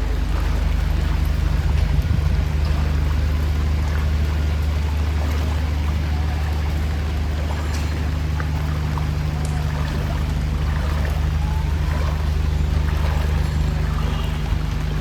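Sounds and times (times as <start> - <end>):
engine humming steadily: 0.0 - 15.0
floodwater hissing: 0.0 - 15.0.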